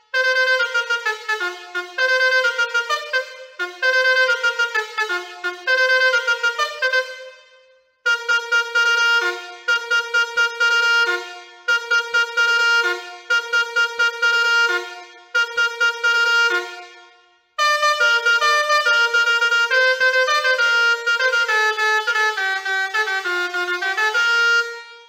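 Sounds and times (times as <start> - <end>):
musical air horn melodies: 0.0 - 25.0.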